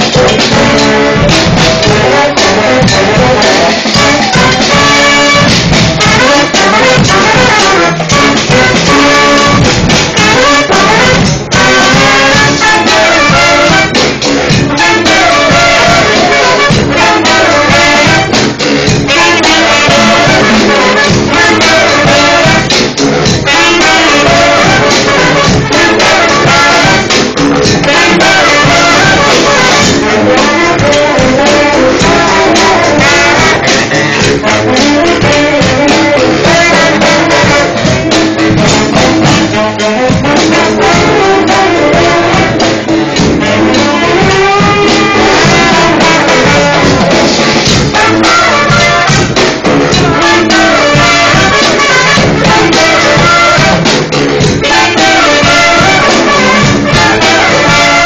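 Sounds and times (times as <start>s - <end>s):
marching brass band playing: 0.0s - 58.0s
percussion hits: 0.0s - 58.0s.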